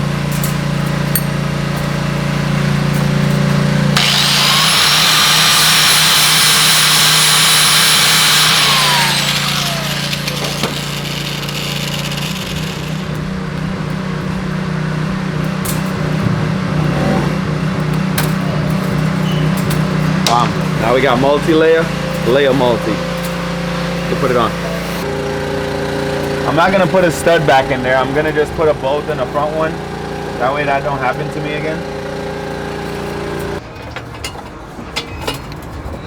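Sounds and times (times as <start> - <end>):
power grinder whining: 1.4 - 33.6.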